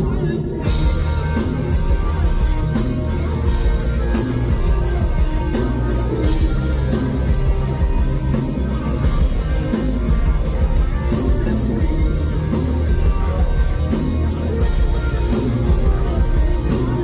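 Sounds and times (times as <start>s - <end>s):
live rock band with electric guitar: 0.0s - 17.0s.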